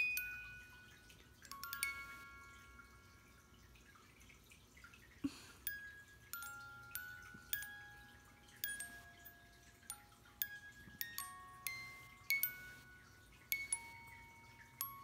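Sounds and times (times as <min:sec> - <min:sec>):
music box plinking melody: 0:00.0 - 0:03.9, 0:05.3 - 0:15.0.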